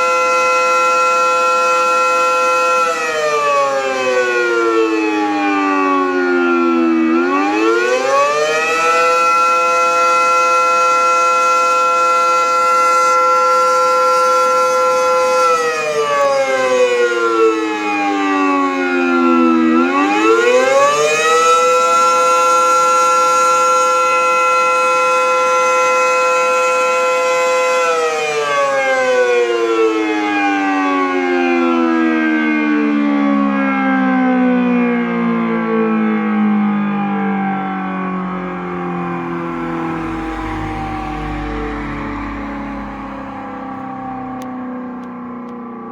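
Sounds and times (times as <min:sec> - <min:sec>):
air raid siren: 0:00.0 - 0:45.9.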